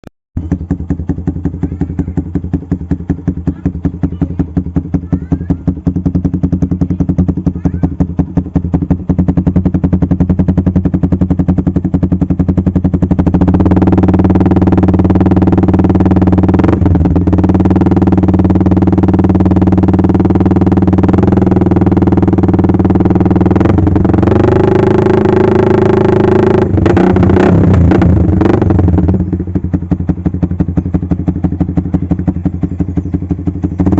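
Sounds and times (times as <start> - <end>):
motorcycle engine idling and revving: 0.4 - 33.9.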